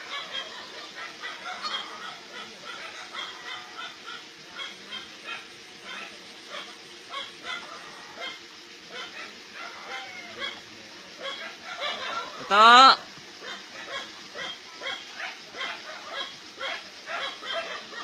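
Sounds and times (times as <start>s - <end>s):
dogs barking: 0.0s - 18.0s.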